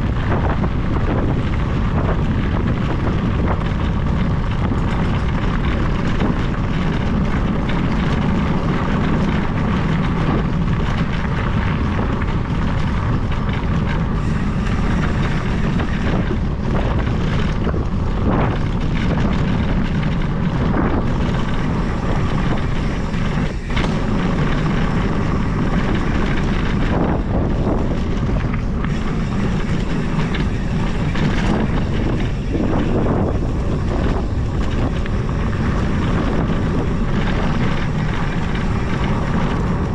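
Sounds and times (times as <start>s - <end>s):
tyres rolling over gravel: 0.0s - 39.9s
wind on microphone: 0.0s - 39.9s.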